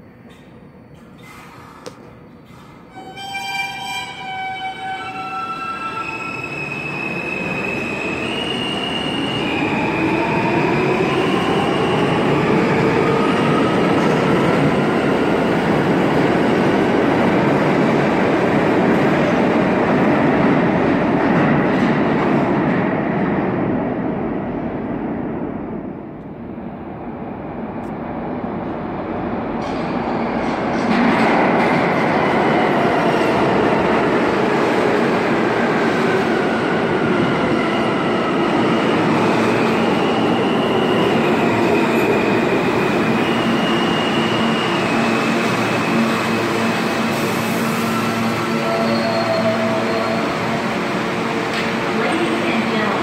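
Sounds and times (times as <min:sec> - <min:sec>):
subway train rumbling: 0:00.0 - 0:53.0.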